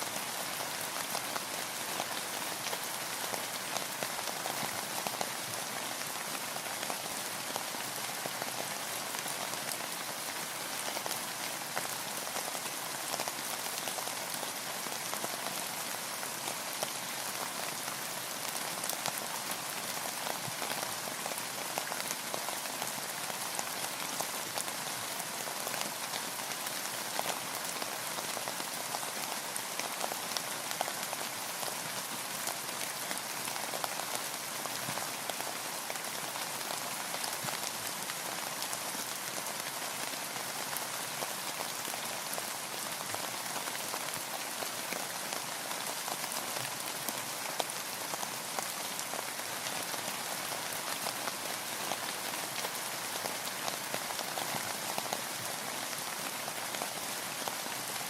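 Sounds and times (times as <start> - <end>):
rain on a boat: 0.0 - 58.0.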